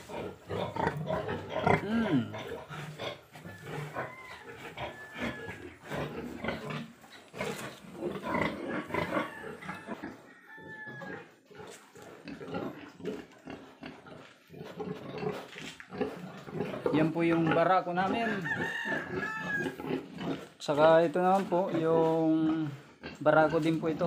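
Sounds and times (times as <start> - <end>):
pigs grunting: 0.0 - 24.0.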